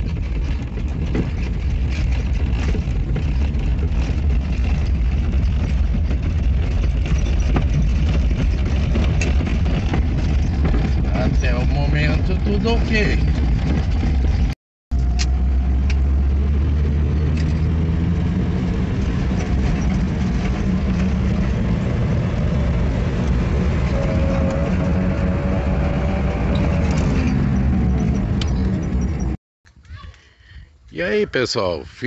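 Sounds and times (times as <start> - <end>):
road noise inside car: 0.0 - 29.4
car engine accelerating: 1.8 - 29.4.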